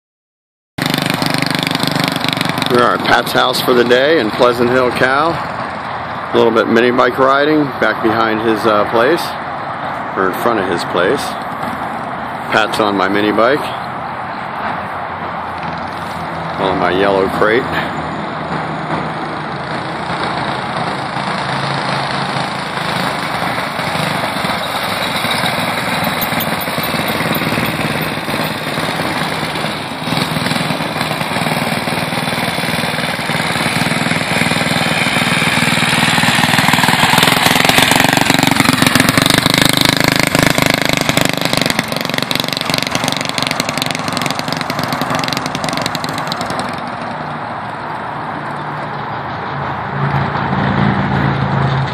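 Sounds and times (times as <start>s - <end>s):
mini bike engine running: 0.8s - 9.2s, 15.5s - 49.3s.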